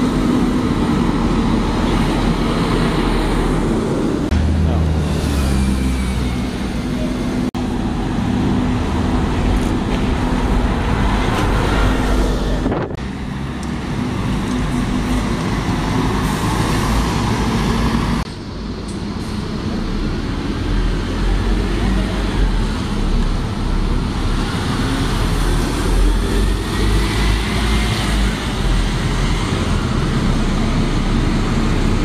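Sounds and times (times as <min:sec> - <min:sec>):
bus engine hum: 0:00.0 - 0:32.0
road traffic noise: 0:00.0 - 0:32.0.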